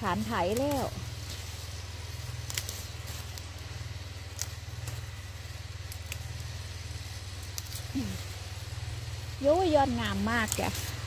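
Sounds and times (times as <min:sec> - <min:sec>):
lawn mower engine droning: 0:00.0 - 0:11.0.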